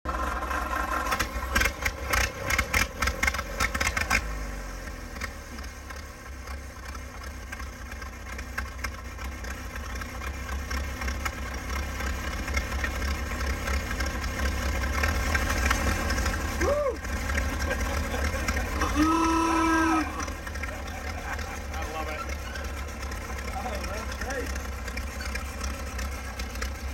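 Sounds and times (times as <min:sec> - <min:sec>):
engine running unevenly then idling: 0:00.1 - 0:26.9.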